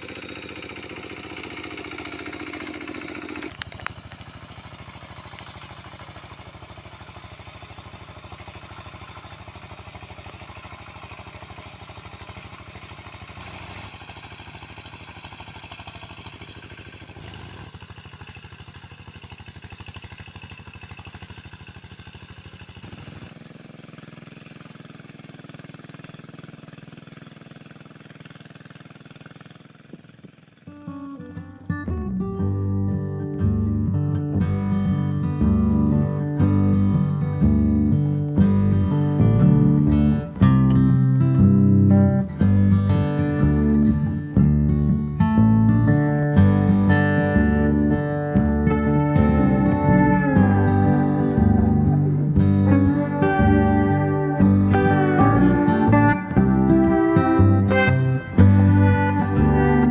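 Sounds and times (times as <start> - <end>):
small engine running: 0.0 - 32.5, 33.2 - 59.9.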